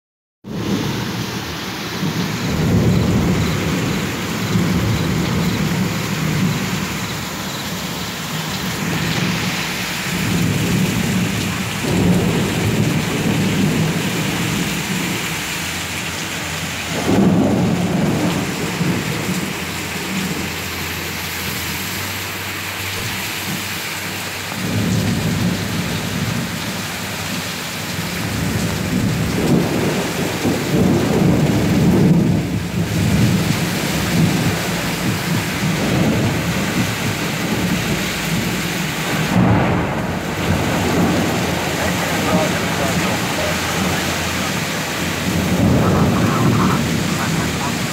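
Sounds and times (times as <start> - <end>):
heavy rain: 0.4 - 47.9
thunder rumbling: 0.5 - 21.6, 24.4 - 47.9.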